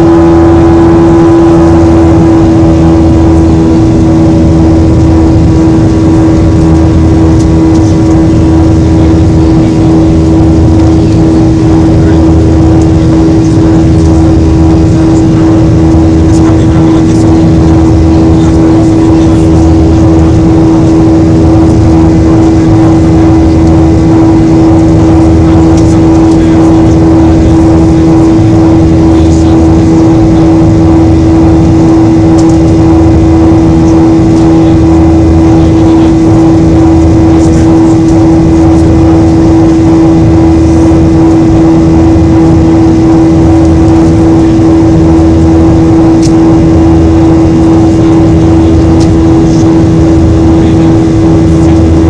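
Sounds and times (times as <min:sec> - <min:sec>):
jet engine drone in cabin: 0:00.0 - 0:52.0.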